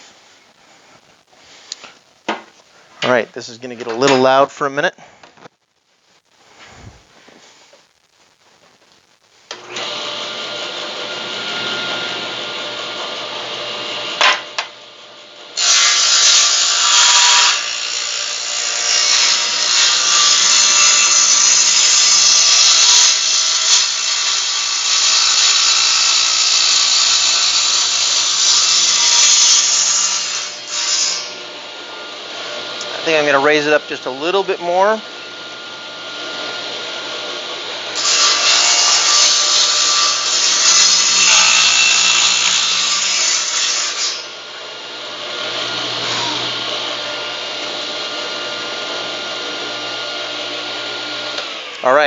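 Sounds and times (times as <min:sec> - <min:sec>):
table saw cutting wood: 0:09.5 - 0:52.0.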